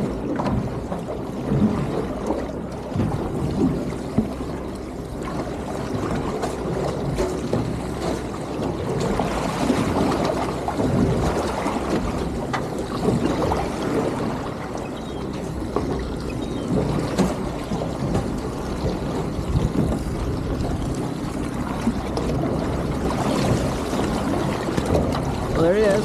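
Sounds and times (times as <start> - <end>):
water slapping boat hull: 0.0 - 26.0
wind buffeting microphone: 0.0 - 26.0.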